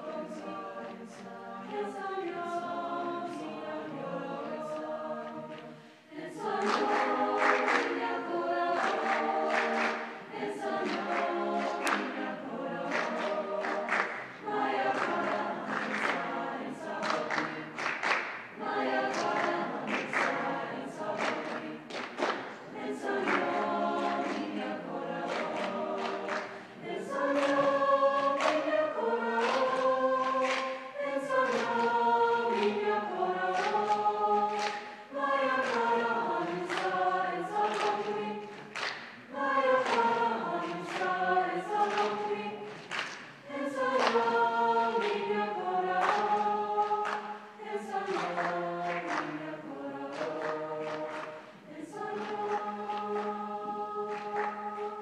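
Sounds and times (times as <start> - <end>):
choir singing chords: 0.0 - 55.0.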